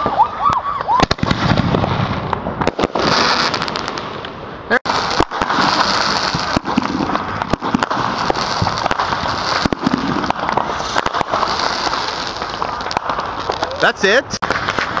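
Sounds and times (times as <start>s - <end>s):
fireworks crackling and hissing: 0.0s - 15.0s
fireworks pops and cracks: 0.0s - 15.0s.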